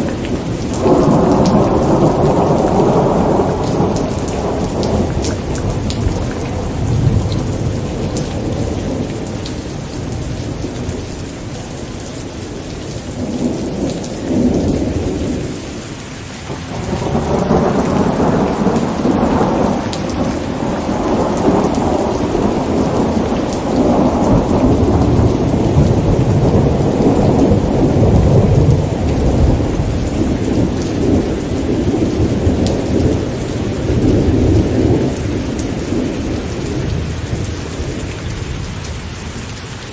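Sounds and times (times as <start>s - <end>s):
thunder rumbling: 0.0s - 39.2s
steady rain: 0.0s - 39.9s.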